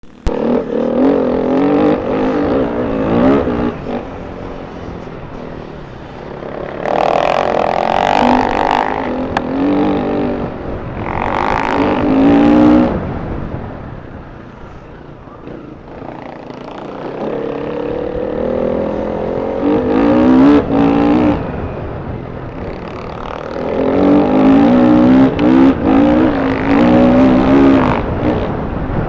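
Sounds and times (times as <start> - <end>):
motorcycle engine revving: 0.0 - 13.7, 15.4 - 29.0.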